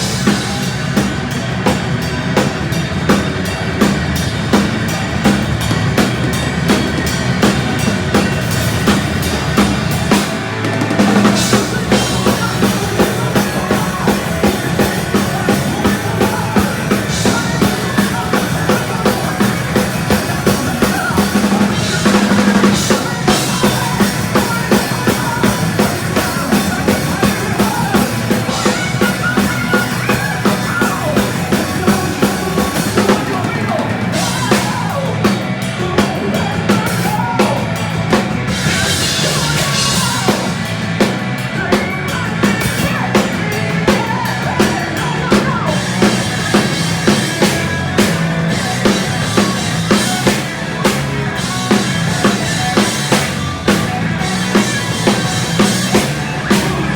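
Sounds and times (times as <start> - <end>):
fast kick drum and snare beat: 0.0 - 56.9
metal band playing live: 0.0 - 56.9.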